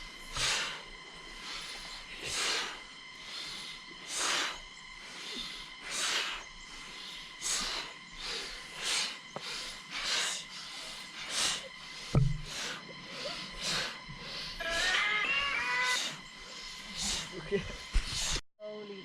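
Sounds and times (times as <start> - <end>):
sharp breaths through the nose: 0.0 - 15.0, 16.0 - 18.4.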